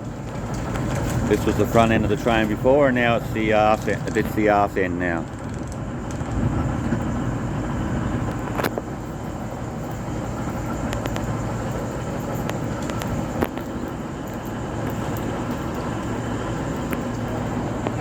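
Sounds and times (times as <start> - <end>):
diesel train idling: 0.0 - 18.0.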